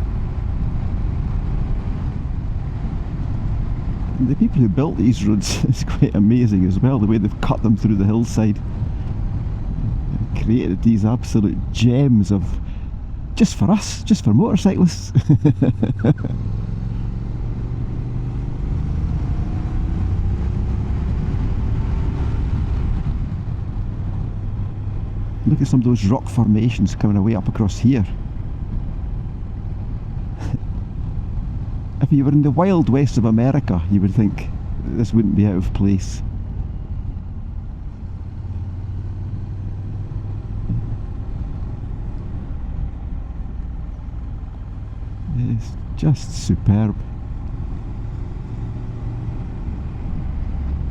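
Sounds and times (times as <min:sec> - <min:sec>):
wind and road rumble: 0:00.0 - 0:50.9.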